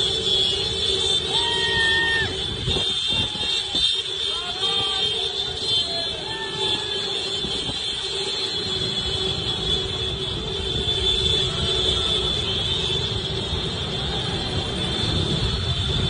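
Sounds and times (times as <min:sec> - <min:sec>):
scooter engines rumbling: 0:00.0 - 0:16.0.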